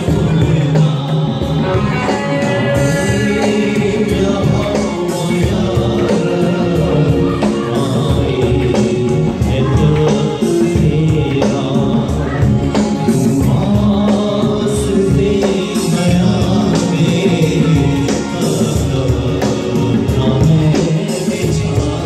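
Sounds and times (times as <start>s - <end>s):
electronic keyboard: 0.0s - 22.0s
man singing into microphone: 0.0s - 22.0s
steady drum beat: 0.0s - 22.0s.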